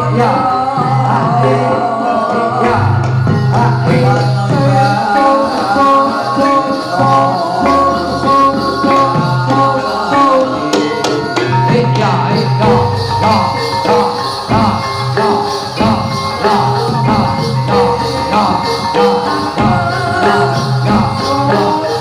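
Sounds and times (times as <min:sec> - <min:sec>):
drums: 0:00.0 - 0:22.0
jingling percussion: 0:00.0 - 0:22.0
wavering melodic line: 0:00.0 - 0:22.0.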